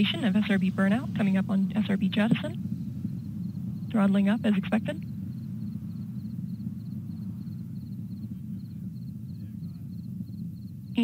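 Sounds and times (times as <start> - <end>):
distant rocket rumble: 0.0 - 11.0.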